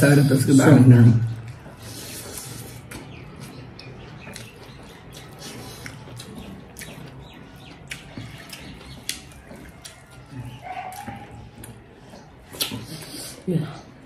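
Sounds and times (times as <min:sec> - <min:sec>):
wet chewing: 0:01.2 - 0:14.0
lip smacks: 0:01.4 - 0:13.5.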